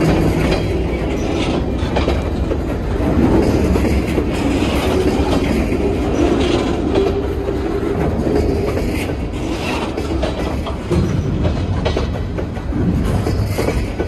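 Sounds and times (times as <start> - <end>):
train wheels rumbling over rail joints: 0.0 - 14.0.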